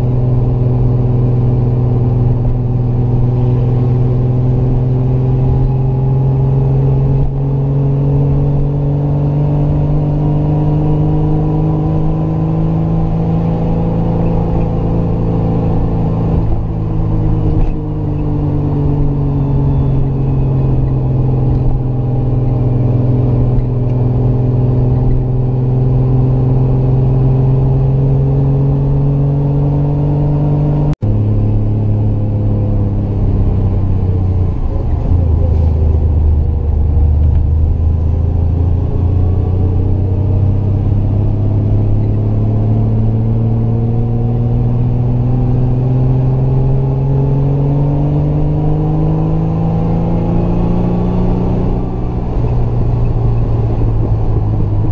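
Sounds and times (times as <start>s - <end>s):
car engine pulling uphill: 0.0s - 54.9s.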